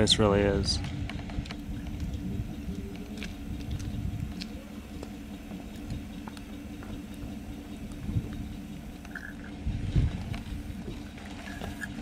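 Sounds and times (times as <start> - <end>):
faint steady hum: 0.0 - 12.0
wind rumbling on microphone: 0.0 - 12.0.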